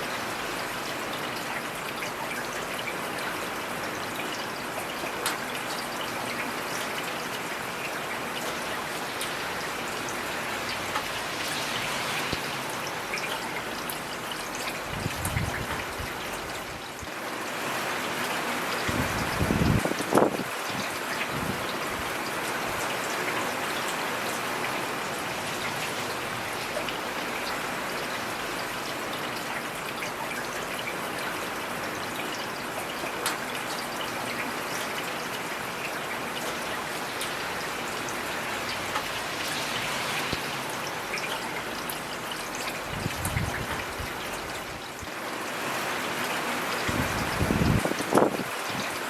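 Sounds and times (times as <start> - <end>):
heavy rain: 0.0 - 49.0.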